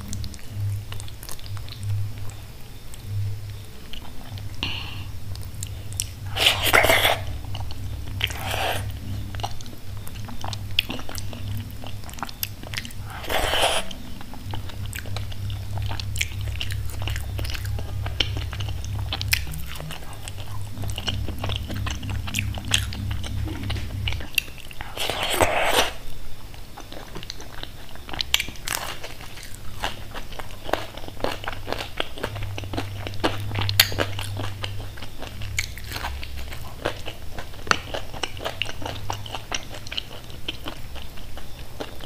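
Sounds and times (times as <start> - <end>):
steady low hum: 0.0 - 42.0
wet chewing and lip-smacking: 3.9 - 42.0.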